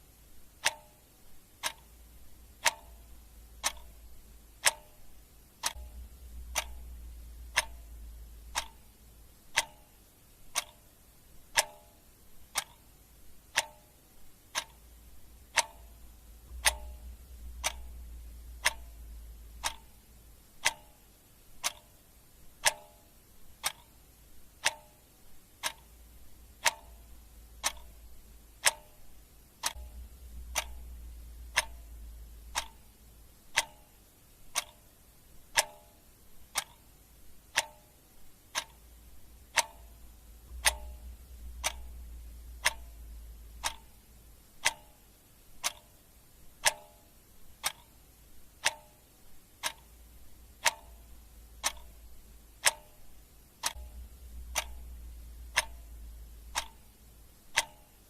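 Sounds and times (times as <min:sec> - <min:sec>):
clock ticking: 0:00.0 - 0:58.0
faint low rumble: 0:00.0 - 0:58.0.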